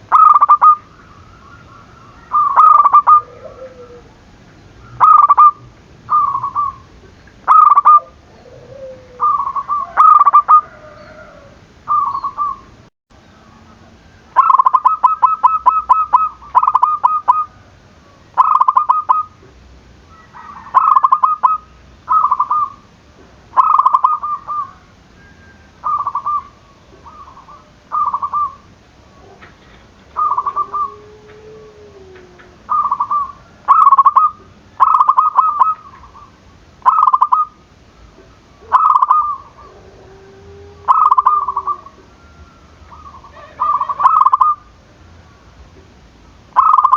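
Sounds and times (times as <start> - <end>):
dove cooing: 0.0 - 12.8, 13.4 - 19.4, 20.1 - 22.8, 23.6 - 44.7, 46.6 - 46.9.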